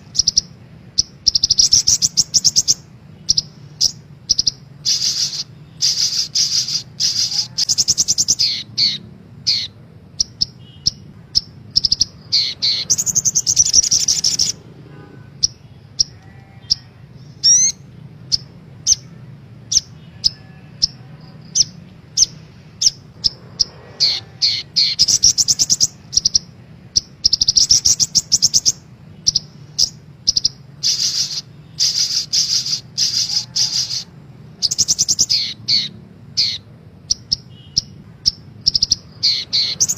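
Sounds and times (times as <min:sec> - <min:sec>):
faint steady low hum: 0:00.0 - 0:39.9
sunbird singing trilled phrases: 0:00.0 - 0:39.9.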